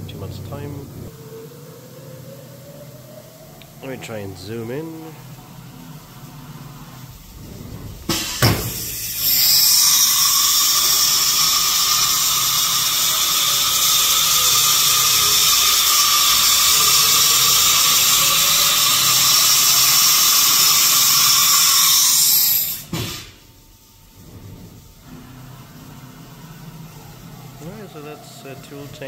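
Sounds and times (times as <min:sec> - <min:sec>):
hiss with high whine: 0:00.1 - 0:29.0.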